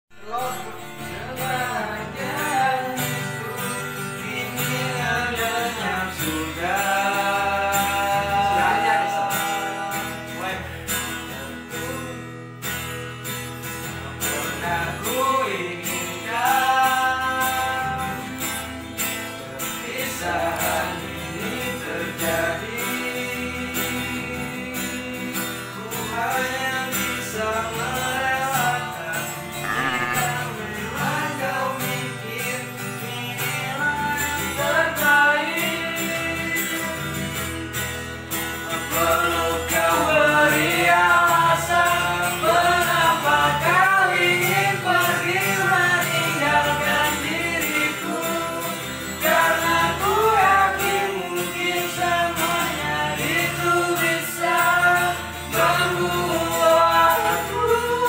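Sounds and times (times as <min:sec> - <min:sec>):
acoustic guitar strumming: 0:00.1 - 0:58.0
men singing slow melody: 0:00.2 - 0:58.0.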